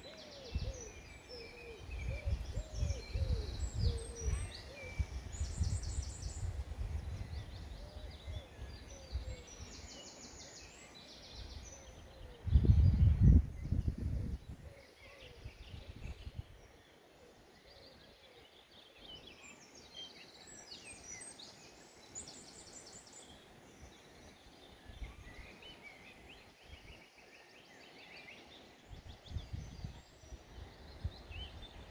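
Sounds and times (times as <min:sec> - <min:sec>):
faint background hiss: 0:00.0 - 0:31.9
songbirds singing: 0:00.0 - 0:31.9.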